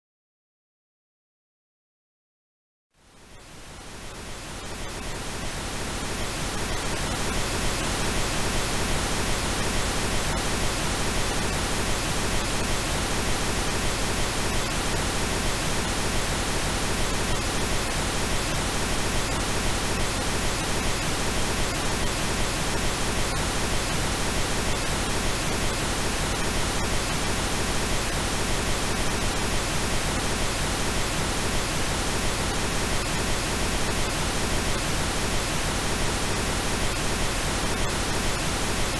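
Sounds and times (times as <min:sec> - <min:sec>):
synthesized pink noise: 0:03.1 - 0:38.9.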